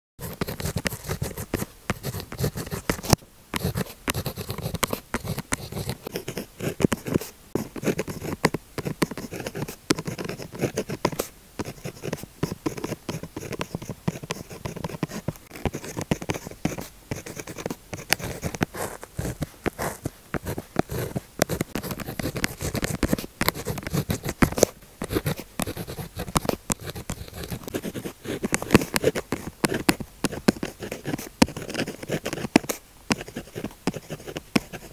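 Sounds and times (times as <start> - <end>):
pen scratching on paper: 0.2 - 34.9.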